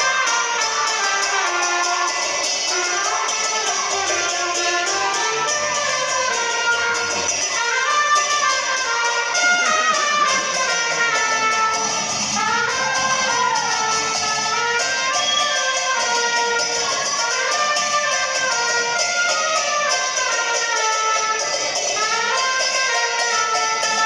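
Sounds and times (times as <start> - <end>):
trumpets playing a melody: 0.0 - 24.0.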